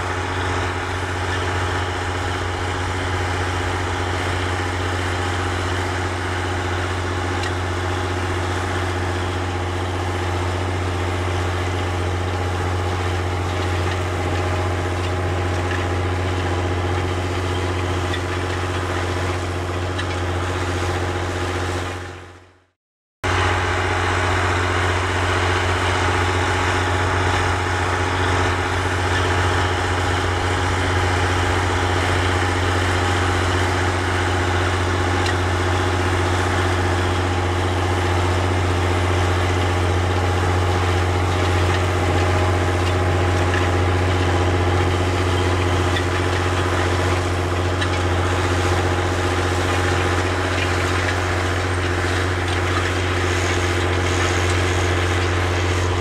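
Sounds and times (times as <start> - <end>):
tractor diesel engine under load: 0.0 - 22.5, 23.2 - 56.0.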